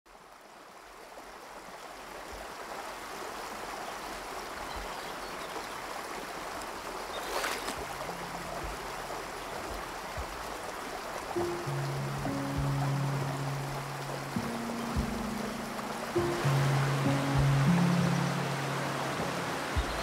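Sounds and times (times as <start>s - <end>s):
stream rushing over rocks: 0.1s - 20.0s.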